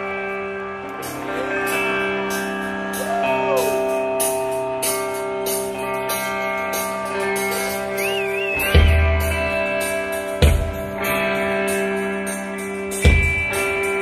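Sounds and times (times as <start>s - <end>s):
electric guitars playing chords: 0.0s - 14.0s.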